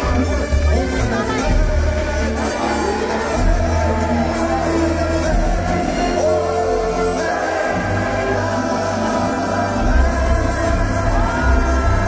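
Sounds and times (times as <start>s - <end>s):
music with singing voice: 0.0s - 12.0s
steady bass: 0.0s - 12.0s.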